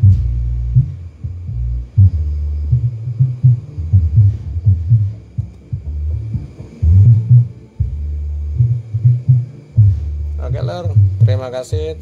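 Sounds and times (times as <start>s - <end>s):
deep bass music: 0.0s - 12.0s.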